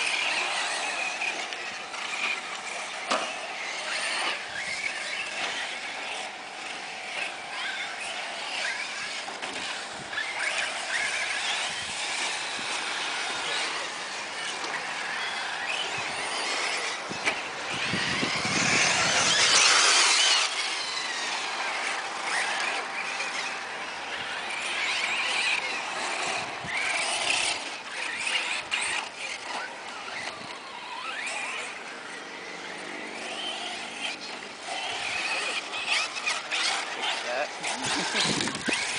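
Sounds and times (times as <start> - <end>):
toy truck motor and gears whining: 0.0 - 38.9.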